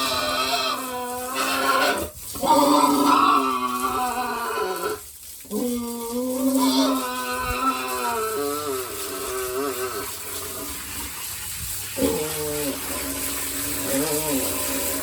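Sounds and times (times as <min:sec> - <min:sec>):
pigs crying out: 0:00.0 - 0:11.2, 0:12.0 - 0:15.0
running water from hose: 0:00.0 - 0:15.0.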